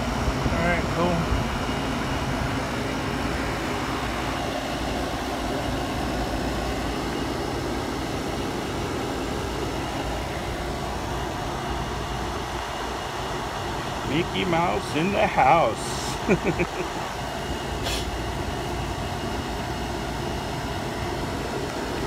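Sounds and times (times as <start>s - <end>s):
refrigeration compressor humming: 0.0s - 22.0s.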